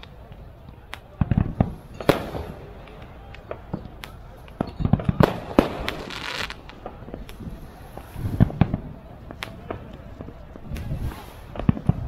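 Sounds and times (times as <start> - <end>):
fireworks bangs and cracks: 0.0 - 12.0
fireworks crackle: 0.0 - 12.0.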